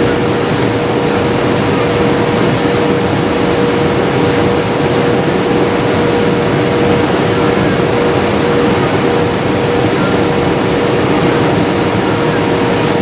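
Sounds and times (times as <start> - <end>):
jet engines and airflow rushing: 0.0 - 13.0
steady mid-pitched tone: 0.0 - 13.0.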